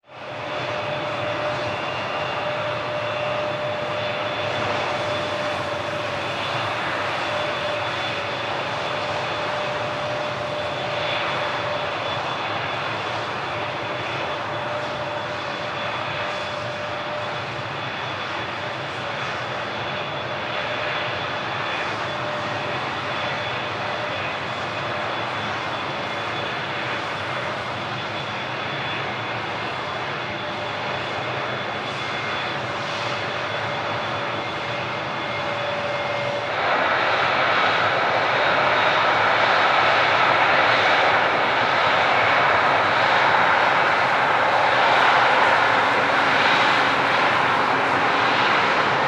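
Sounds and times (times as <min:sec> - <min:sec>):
jet engines running: 0:00.1 - 0:49.0.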